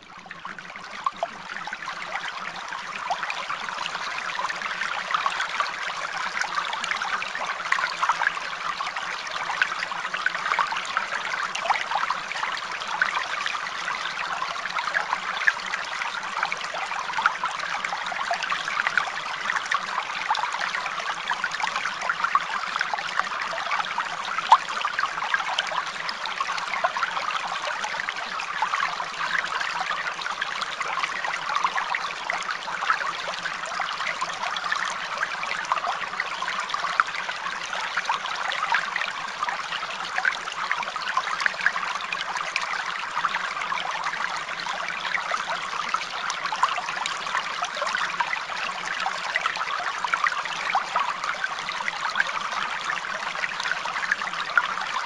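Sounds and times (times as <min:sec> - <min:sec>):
water trickling and bubbling: 0:00.0 - 0:55.0.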